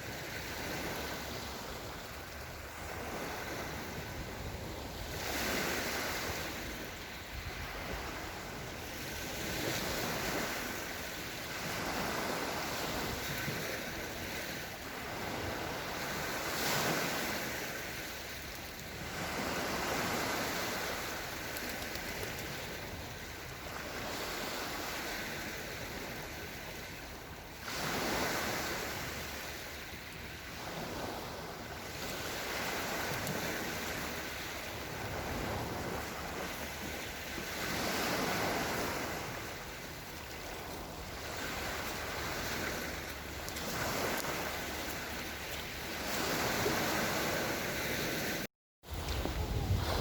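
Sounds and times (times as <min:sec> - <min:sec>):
small waves washing onto shore: 0:00.0 - 0:50.0.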